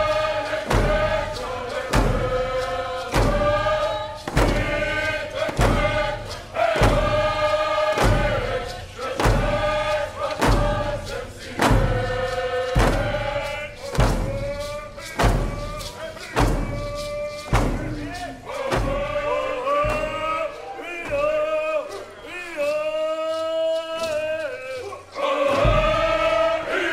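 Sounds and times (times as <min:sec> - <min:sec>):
chanted singing: 0:00.0 - 0:26.9
drum beating slowly: 0:00.0 - 0:26.9.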